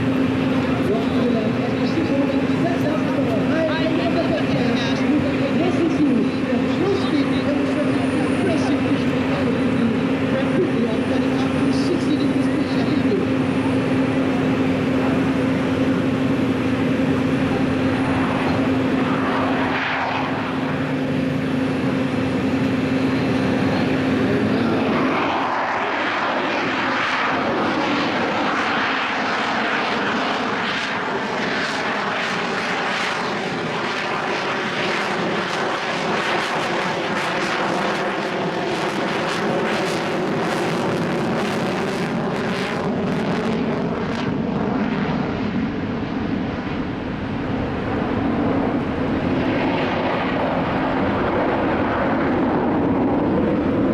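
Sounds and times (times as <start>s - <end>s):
jet engine hum and roar: 0.0s - 53.9s.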